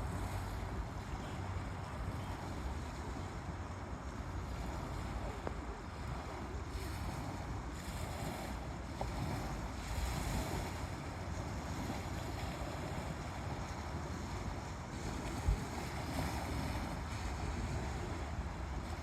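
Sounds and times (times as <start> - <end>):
waves washing up on shore: 0.0 - 19.0
wind rumbling on microphone: 0.0 - 19.0.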